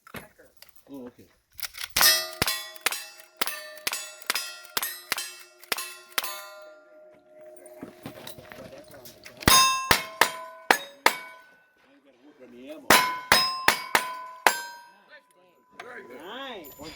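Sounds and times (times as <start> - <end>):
steel targets clanging: 1.9 - 11.6, 12.8 - 16.9.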